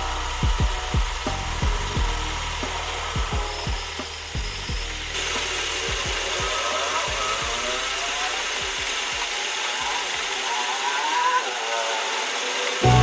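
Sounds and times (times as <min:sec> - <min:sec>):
power tool high whine: 0:00.0 - 0:13.0.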